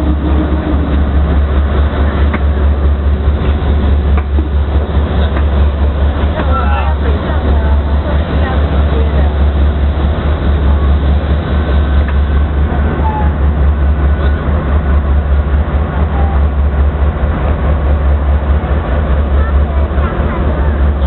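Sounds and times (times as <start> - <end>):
locomotive low rumble: 0.0 - 21.0.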